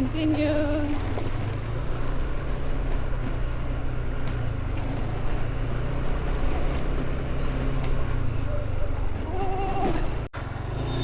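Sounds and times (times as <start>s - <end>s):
small motorbike engine running: 0.0s - 10.3s
road and wind noise: 0.0s - 11.0s.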